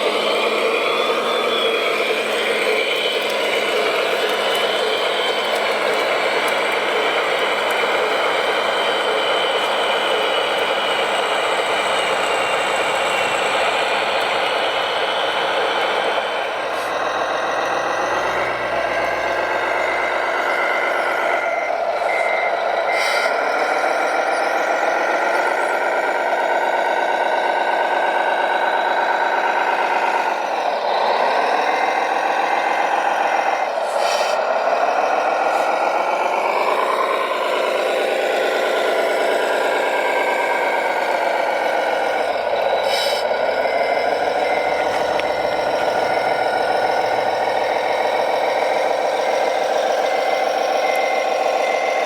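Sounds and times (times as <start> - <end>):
rc truck engine sound: 0.0 - 52.0
reversing beeper: 0.0 - 52.0.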